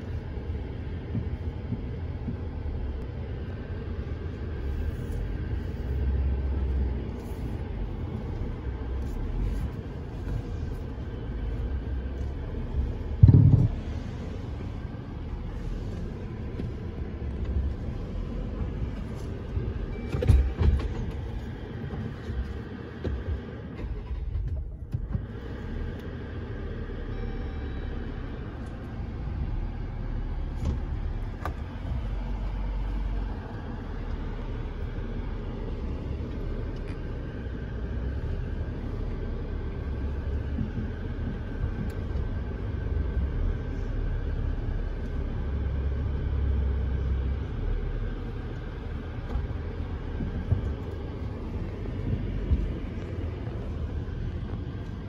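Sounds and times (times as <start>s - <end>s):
engine and drivetrain rumble: 0.0s - 55.0s.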